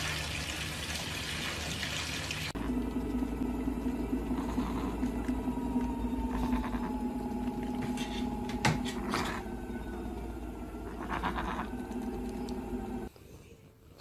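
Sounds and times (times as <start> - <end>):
steady low hum: 2.5 - 14.0.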